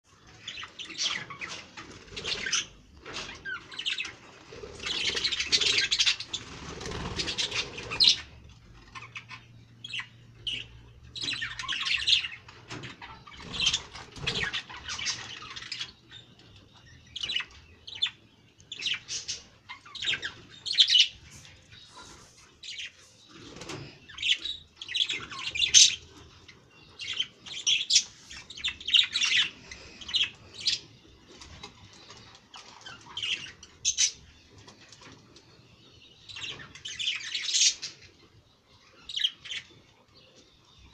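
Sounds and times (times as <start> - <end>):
budgerigars chirping: 0.2 - 40.9.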